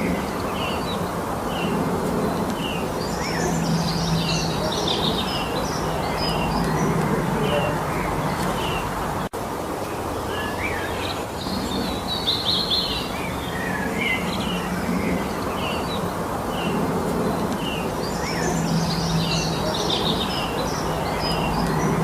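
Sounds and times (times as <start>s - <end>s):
songbirds singing: 0.0s - 22.0s
steady rushing background noise: 0.0s - 22.0s.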